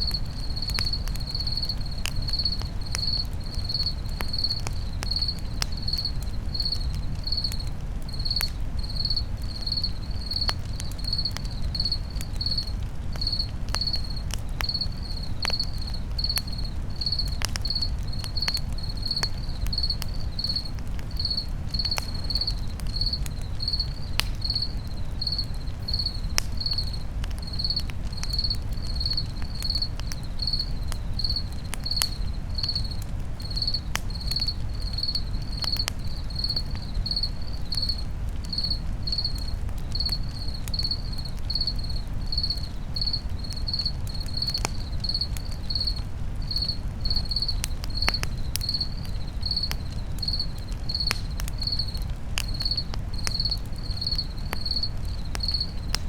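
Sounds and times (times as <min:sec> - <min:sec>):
crackling campfire: 0:00.0 - 0:56.0
crickets chirping: 0:00.0 - 0:56.0.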